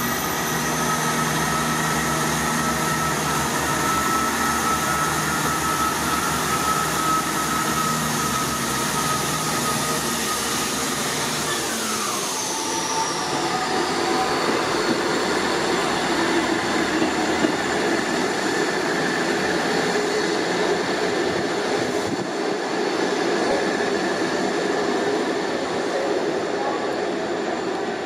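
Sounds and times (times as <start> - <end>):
wheels on rail: 0.0 - 27.9
diesel train engine: 0.0 - 28.0.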